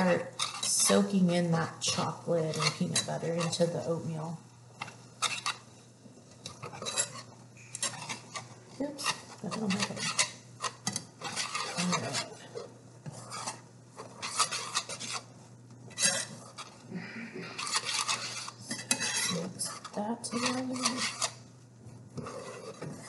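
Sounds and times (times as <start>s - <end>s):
metal utensil scraping a pan: 0.0s - 4.0s, 5.2s - 5.7s, 6.5s - 15.3s, 15.9s - 16.8s, 17.4s - 21.4s, 22.2s - 23.0s.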